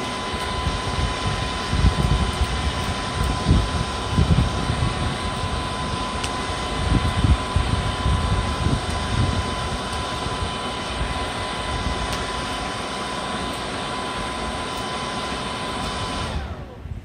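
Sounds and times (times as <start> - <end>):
air rushing through charcoal: 0.0 - 17.0
hairdryer whine: 0.0 - 17.0.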